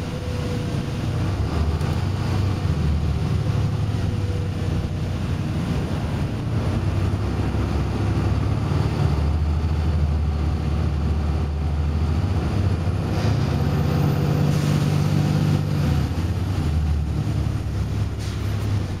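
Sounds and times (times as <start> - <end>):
bus diesel engine droning: 0.0 - 19.0
road and body rumble: 0.0 - 19.0.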